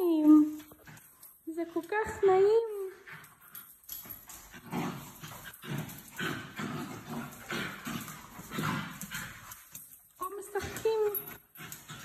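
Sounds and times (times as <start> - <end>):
dogs growling and grunting: 0.4 - 12.0.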